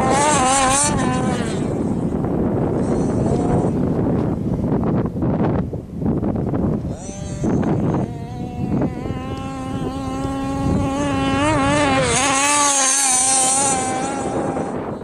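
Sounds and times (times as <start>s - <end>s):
dune car engine running: 0.0s - 15.0s.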